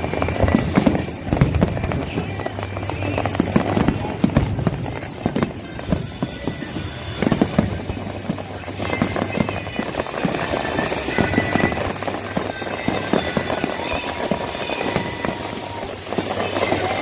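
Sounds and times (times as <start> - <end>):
fireworks popping and crackling: 0.0 - 17.0
music: 0.0 - 17.0.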